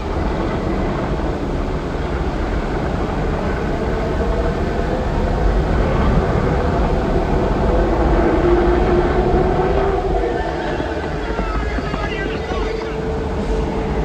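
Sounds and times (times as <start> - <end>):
roaring tornado wind: 0.0 - 14.0.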